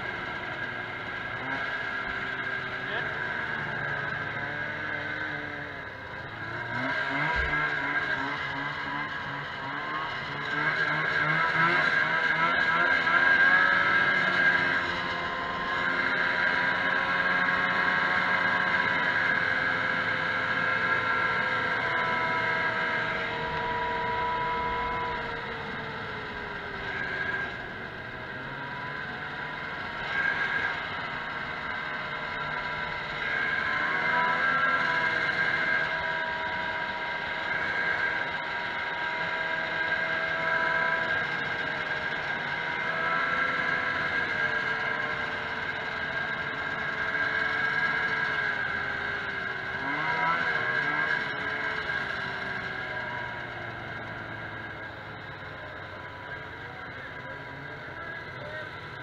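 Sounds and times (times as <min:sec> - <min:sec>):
snowmobile engine whine: 0:00.0 - 0:59.0.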